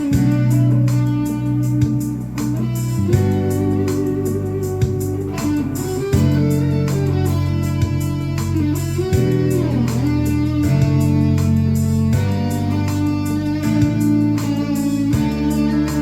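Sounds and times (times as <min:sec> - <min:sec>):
guitar chords and notes: 0:00.0 - 0:16.0.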